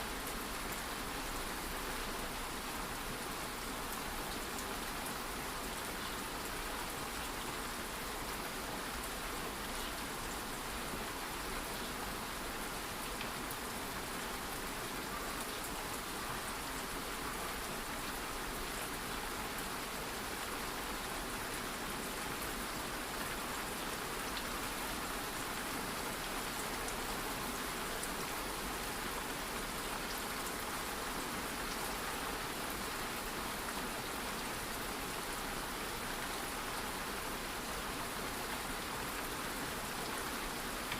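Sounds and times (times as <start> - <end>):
light rain falling: 0.0 - 40.9.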